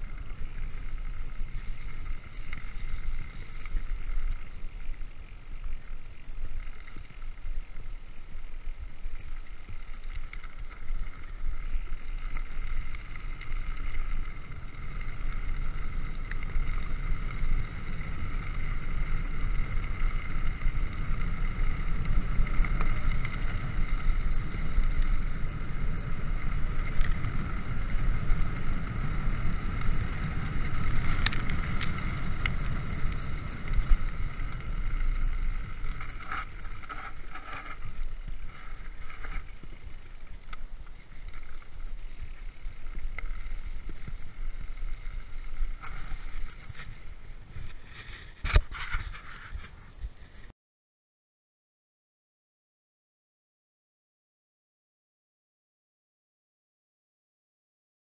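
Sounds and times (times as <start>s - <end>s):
bike tyres rumbling over ground: 0.0s - 50.5s.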